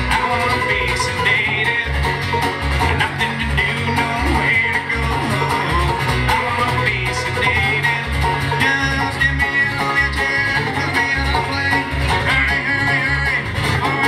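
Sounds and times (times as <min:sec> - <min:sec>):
picked banjo: 0:00.0 - 0:14.0
strummed acoustic guitars: 0:00.0 - 0:14.0.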